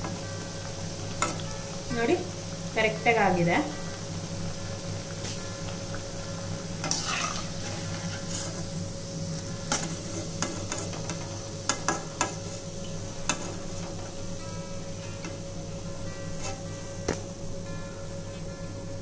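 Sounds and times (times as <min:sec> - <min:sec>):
food sizzling in hot oil: 0:00.0 - 0:17.5.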